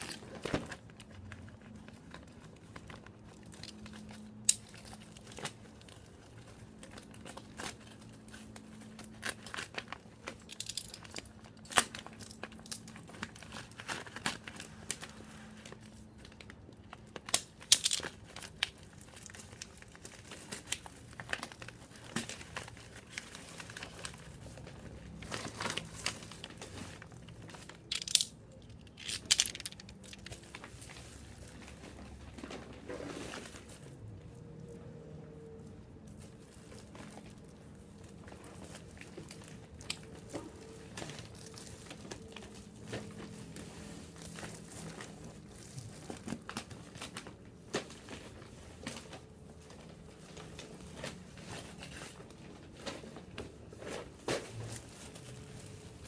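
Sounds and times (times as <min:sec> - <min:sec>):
wrapping crinkling and rustling: 0:00.0 - 0:56.0.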